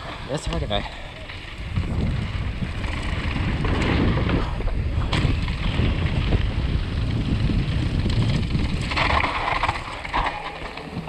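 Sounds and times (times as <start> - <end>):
bike tyres rumbling on gravel: 0.0 - 11.0
wind buffeting microphone: 0.0 - 11.0.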